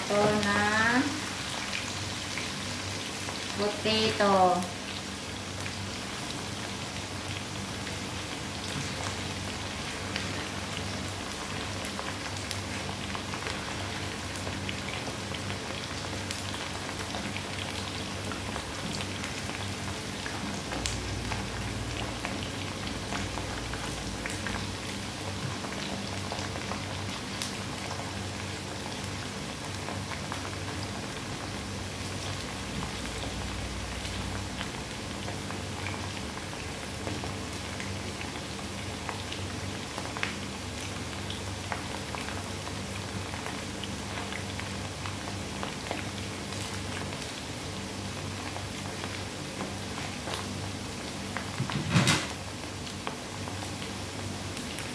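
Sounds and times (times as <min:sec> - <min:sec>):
food sizzling in hot oil: 0:00.0 - 0:54.9.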